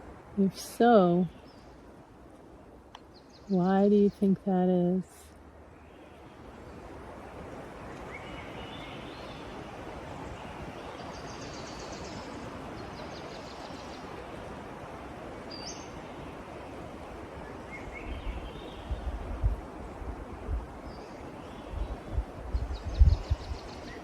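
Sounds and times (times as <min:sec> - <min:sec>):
rushing forest ambience: 0:00.0 - 0:24.0
songbirds calling: 0:00.4 - 0:01.9, 0:02.9 - 0:05.0, 0:05.7 - 0:07.1, 0:07.7 - 0:24.0.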